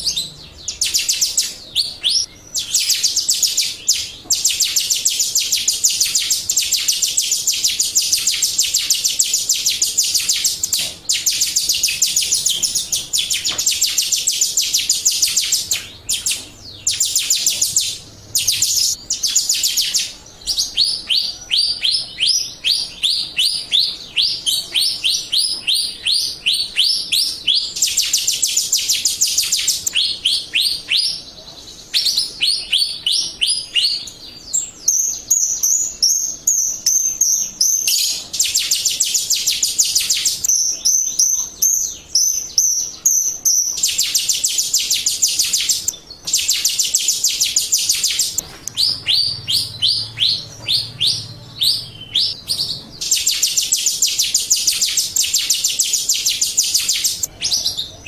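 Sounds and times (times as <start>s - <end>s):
bird chirping rapidly: 0.0s - 58.0s.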